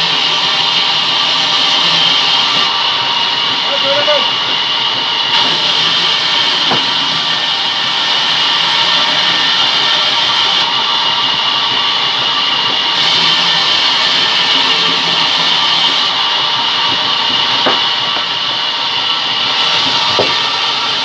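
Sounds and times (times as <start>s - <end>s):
band saw cutting wood: 0.0s - 21.0s.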